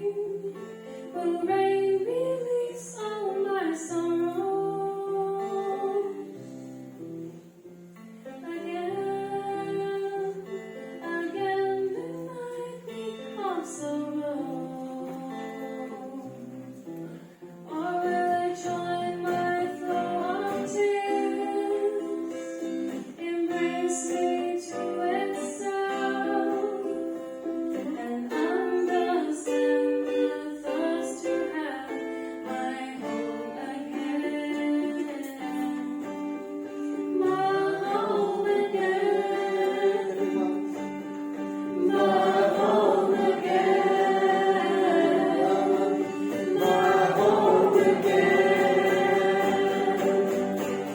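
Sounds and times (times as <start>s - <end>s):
woman singing: 0.0s - 6.5s, 8.3s - 16.9s, 17.6s - 50.9s
acoustic guitar: 0.0s - 50.9s.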